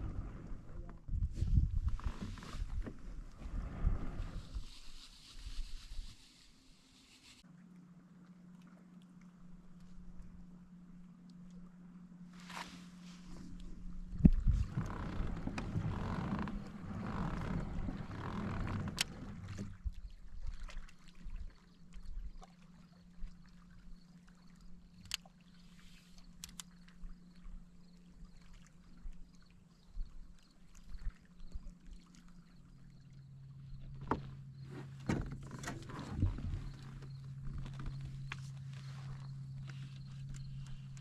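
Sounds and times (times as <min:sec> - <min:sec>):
faint steady hum: 0:00.0 - 0:41.0
water sounds: 0:02.0 - 0:41.0.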